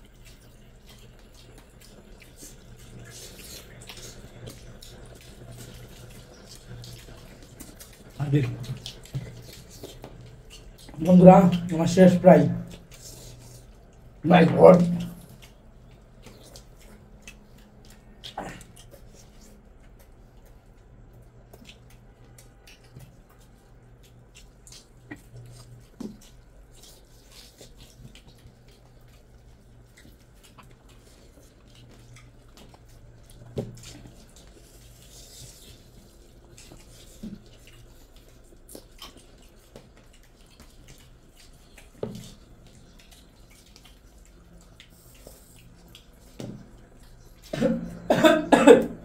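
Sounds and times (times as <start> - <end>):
wet squishes of fingers mixing rice: 0.0 - 48.1
chewing mouth sounds: 0.0 - 49.0.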